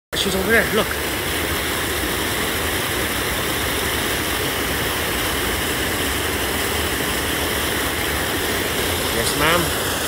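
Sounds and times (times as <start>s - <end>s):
water rushing through gate: 0.2s - 10.0s.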